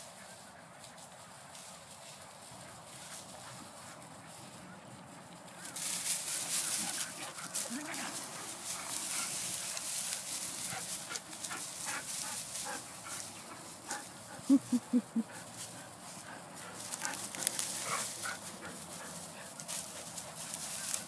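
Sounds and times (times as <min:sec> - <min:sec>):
dry grass rustling: 0:00.0 - 0:21.0.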